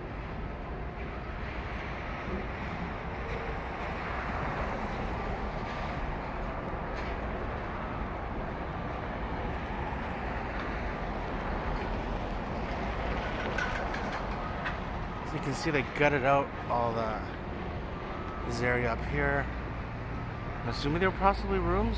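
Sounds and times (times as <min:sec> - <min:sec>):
busy street rumble: 0:00.0 - 0:21.9
passing cars: 0:00.0 - 0:21.9.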